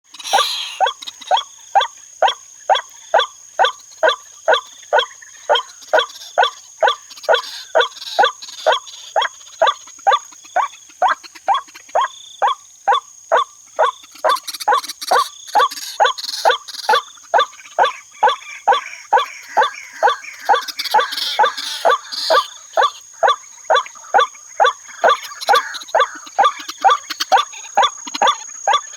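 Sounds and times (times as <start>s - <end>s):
waterhen call repeated: 0.1s - 28.9s.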